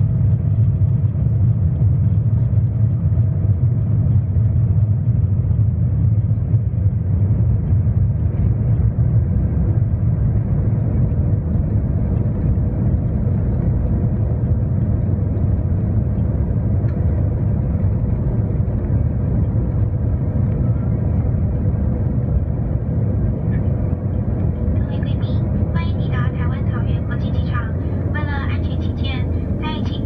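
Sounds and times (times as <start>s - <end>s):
aircraft cabin engine rumble: 0.0s - 30.0s
faint steady hum: 0.0s - 30.0s.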